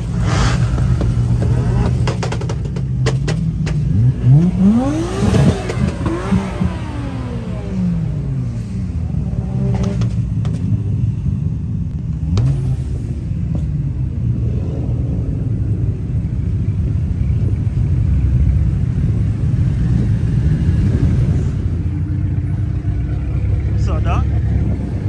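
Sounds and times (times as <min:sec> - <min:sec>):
car exhausts rumbling: 0:00.0 - 0:25.0.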